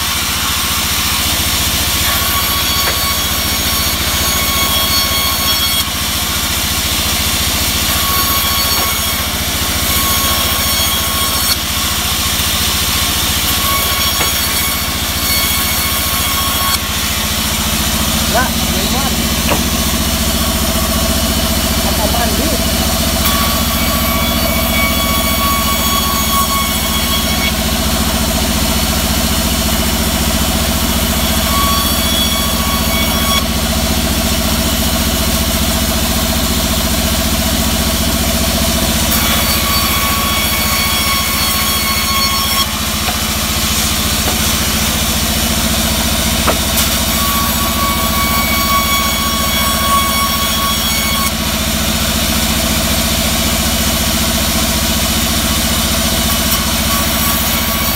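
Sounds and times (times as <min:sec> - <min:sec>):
band saw humming: 0:00.0 - 0:57.9
saw blade whine: 0:00.0 - 0:57.9.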